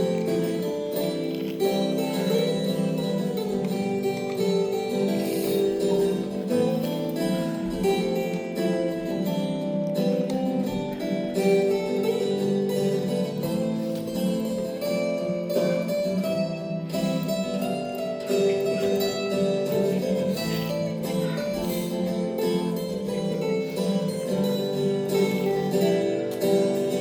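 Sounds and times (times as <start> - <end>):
plucked string instrument music: 0.0 - 27.0.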